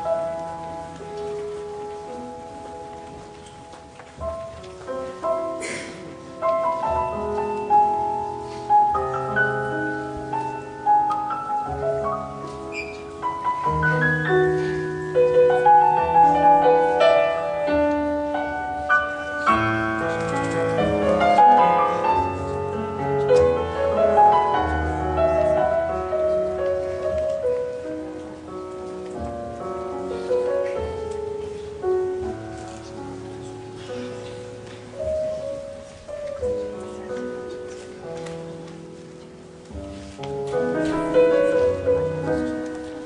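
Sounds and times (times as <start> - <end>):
solo piano classical piece: 0.0 - 43.0.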